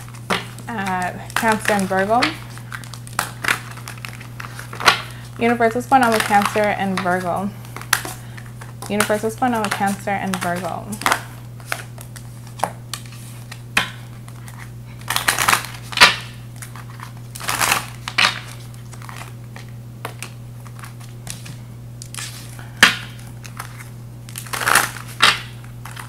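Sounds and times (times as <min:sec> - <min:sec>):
cards riffling: 0:00.0 - 0:26.0
steady low hum: 0:00.0 - 0:26.0.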